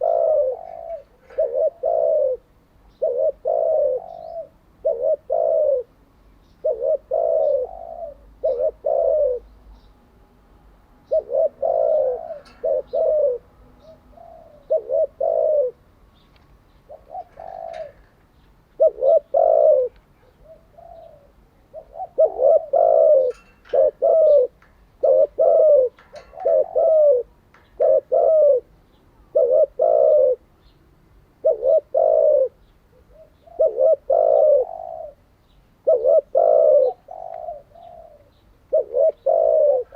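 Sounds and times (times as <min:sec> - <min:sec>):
dove cooing: 0:00.0 - 0:06.0, 0:06.6 - 0:09.5, 0:11.0 - 0:16.2, 0:16.8 - 0:30.7, 0:31.4 - 0:39.9.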